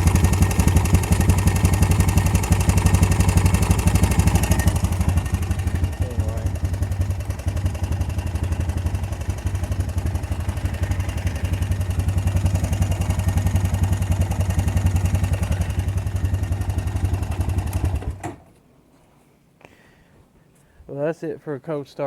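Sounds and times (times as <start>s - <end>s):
atv engine idling: 0.0s - 18.3s.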